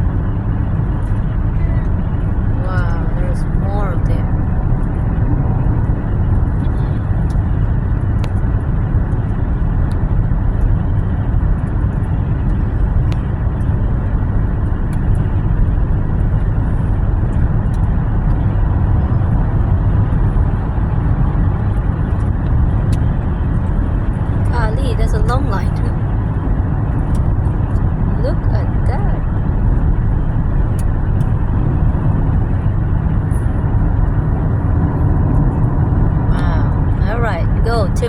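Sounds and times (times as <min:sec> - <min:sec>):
car interior road and engine noise: 0:00.0 - 0:38.0.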